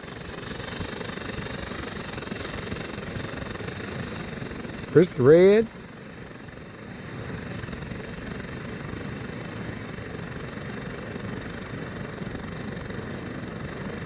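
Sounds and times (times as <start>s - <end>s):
fast fluttering crackle: 0.0s - 14.0s
firework fountain hissing: 0.0s - 14.0s.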